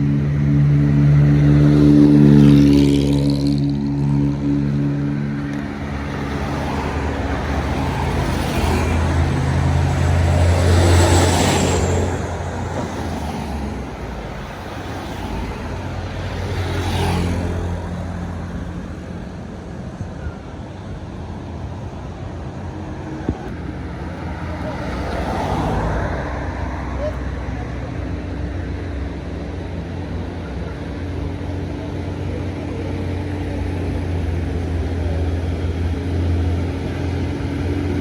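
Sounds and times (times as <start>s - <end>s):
heavy vehicles passing: 0.0s - 38.0s.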